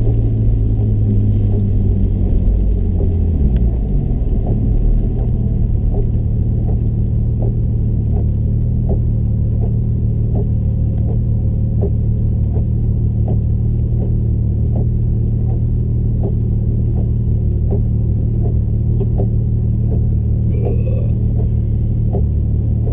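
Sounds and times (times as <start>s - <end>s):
car engine idling unevenly: 0.0s - 22.9s.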